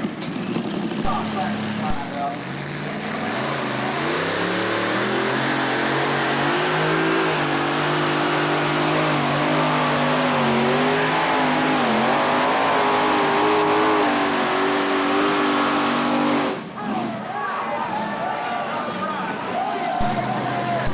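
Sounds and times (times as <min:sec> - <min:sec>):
tractor engine running at high revs: 0:00.0 - 0:16.8, 0:20.0 - 0:20.9.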